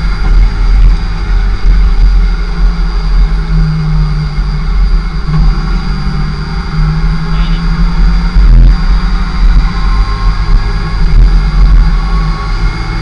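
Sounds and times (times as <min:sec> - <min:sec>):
motorcycle engine at low revs: 0:00.0 - 0:13.0
wind rumble on microphone: 0:00.0 - 0:13.0.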